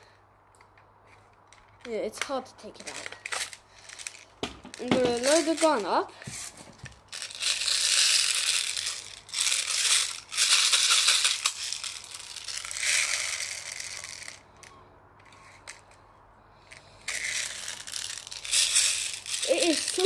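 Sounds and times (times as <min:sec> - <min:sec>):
bbs rattling in a magazine: 0:01.5 - 0:16.0, 0:16.7 - 0:20.0.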